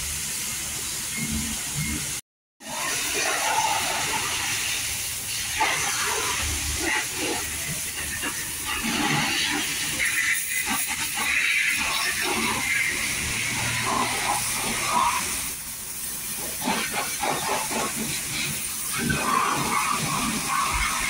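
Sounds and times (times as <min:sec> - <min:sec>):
spray hissing: 0:02.7 - 0:21.0.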